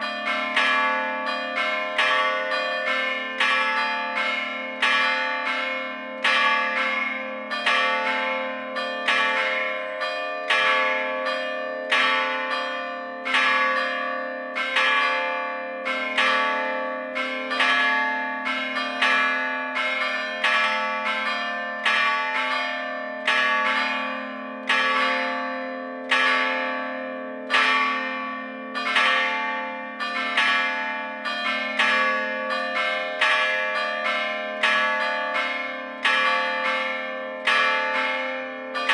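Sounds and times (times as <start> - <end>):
church bells struck by hammers: 0.0 - 38.9.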